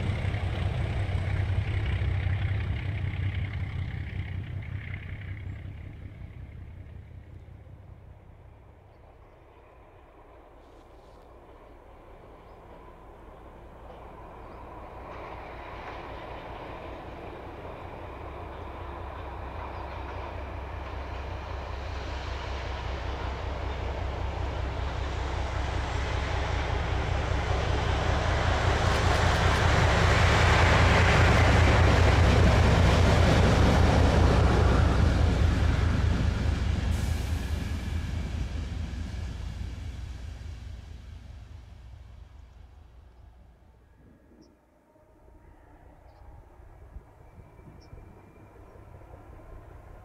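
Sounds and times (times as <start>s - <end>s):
diesel locomotive passing: 0.0s - 50.0s.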